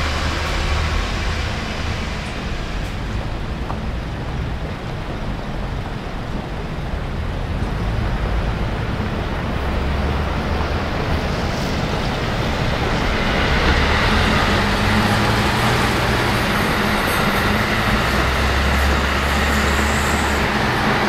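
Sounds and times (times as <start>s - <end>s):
bus engine running: 0.0s - 21.0s
city traffic noise: 0.0s - 21.0s.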